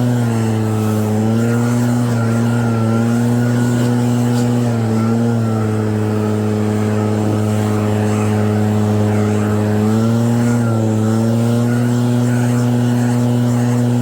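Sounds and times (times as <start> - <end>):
snow blower engine running: 0.0 - 14.0.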